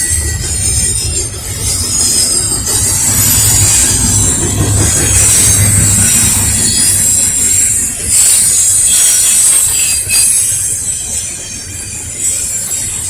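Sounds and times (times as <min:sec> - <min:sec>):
freight train rumbling past: 0:00.0 - 0:13.0
wheels ringing on rail: 0:00.0 - 0:13.0.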